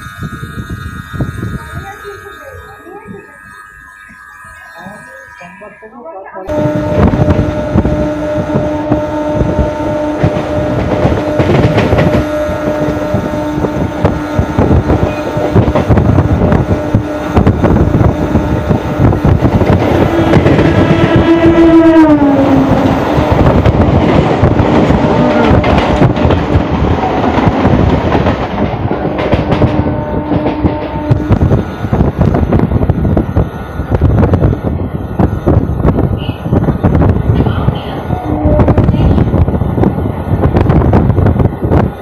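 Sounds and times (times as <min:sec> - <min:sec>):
train horn: 0:00.0 - 0:32.6, 0:37.5 - 0:39.4
rushing air: 0:06.5 - 0:42.0
train wheels rattling over rails: 0:06.5 - 0:42.0.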